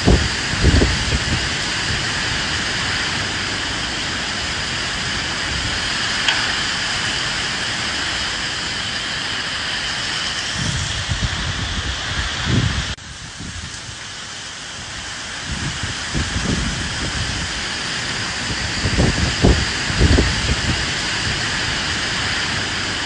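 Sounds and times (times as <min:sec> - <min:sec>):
steady rain falling: 0:00.0 - 0:23.0
wind blowing: 0:00.0 - 0:23.0.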